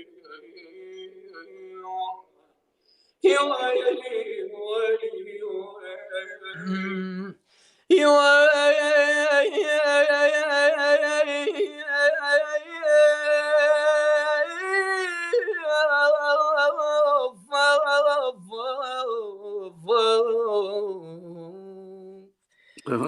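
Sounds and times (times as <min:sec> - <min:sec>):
man singing unaccompanied: 0:03.2 - 0:23.0.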